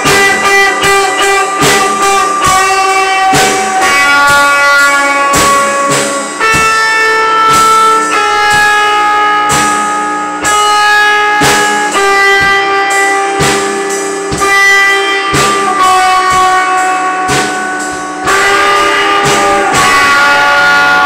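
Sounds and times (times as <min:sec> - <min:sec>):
drum hits: 0:00.0 - 0:21.0
guitar chords: 0:00.0 - 0:21.0.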